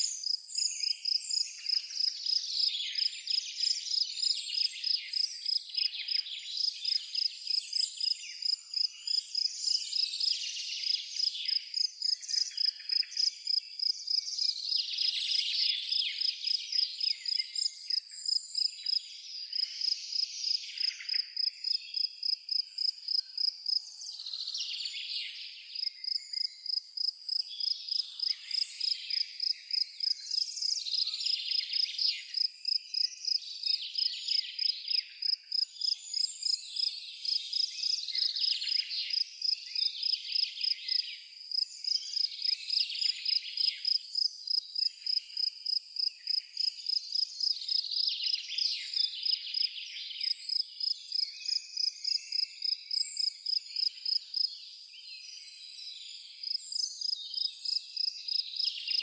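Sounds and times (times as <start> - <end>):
cricket chirping: 0.0 - 59.0
songbirds singing: 0.0 - 59.0.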